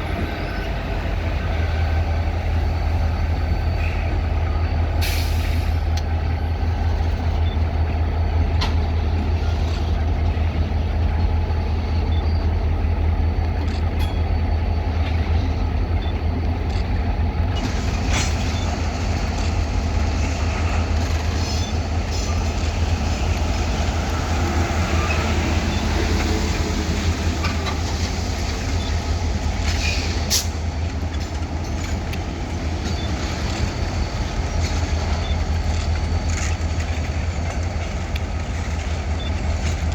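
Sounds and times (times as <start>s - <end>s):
diesel locomotive engine hum: 0.0s - 39.9s.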